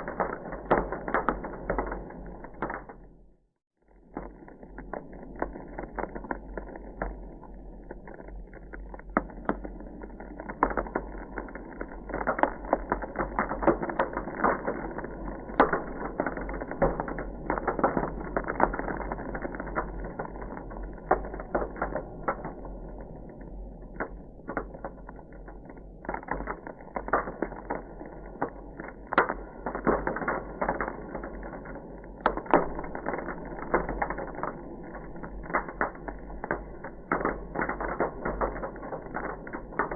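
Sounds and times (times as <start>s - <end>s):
ice crackling and popping: 0.0s - 39.9s.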